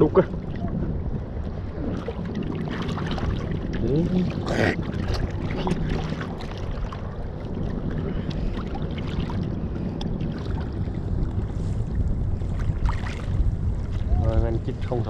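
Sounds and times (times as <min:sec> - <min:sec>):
water slapping against boat: 0:00.0 - 0:15.0
wind buffeting microphone: 0:00.0 - 0:15.0.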